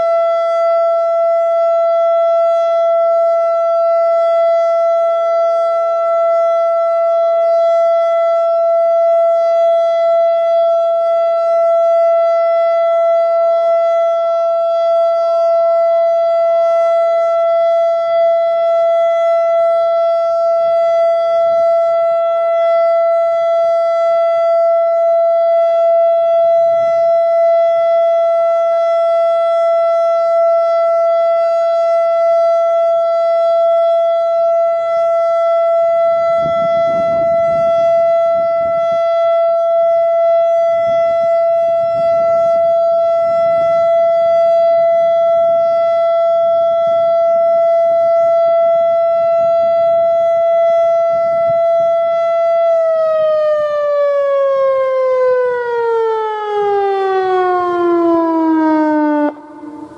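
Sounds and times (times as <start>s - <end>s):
warning siren single tone: 0.0s - 59.9s.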